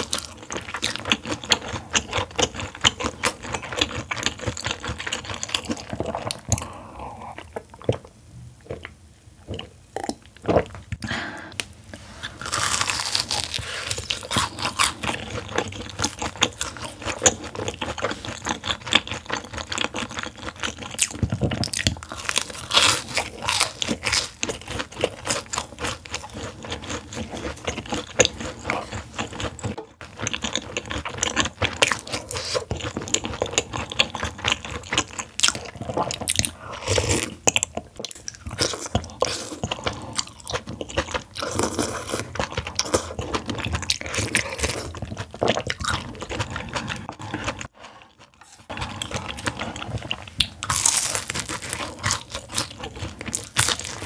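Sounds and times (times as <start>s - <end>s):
crunching and chewing: 0.0s - 11.0s, 12.2s - 54.0s.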